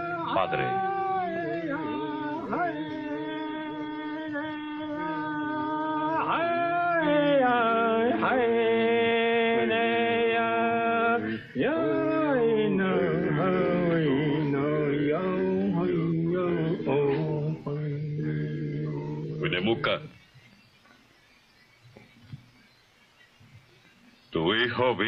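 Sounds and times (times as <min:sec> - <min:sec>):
man chanting wordless song: 0:00.0 - 0:20.2.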